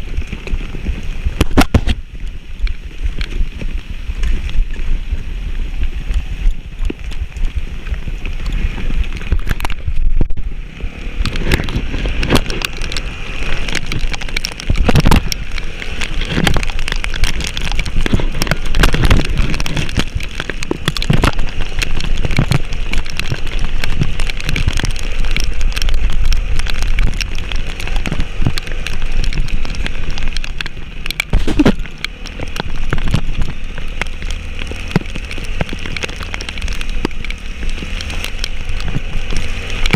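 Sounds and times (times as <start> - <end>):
heavy rain drops: 0.0 - 39.9
steady low rumble: 0.0 - 39.9.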